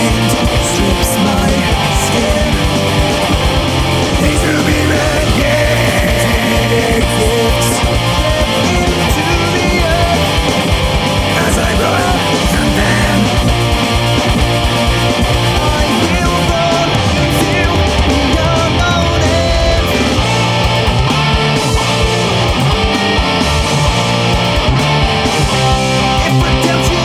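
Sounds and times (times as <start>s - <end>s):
death metal band playing: 0.0s - 27.0s
distorted electric guitars: 0.0s - 27.0s
fast low drumming: 0.0s - 27.0s.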